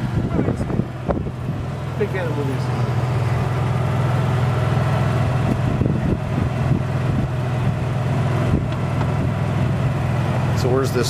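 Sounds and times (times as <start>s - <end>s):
golf cart motor drone: 0.0s - 11.0s
road and wind noise: 0.0s - 11.0s.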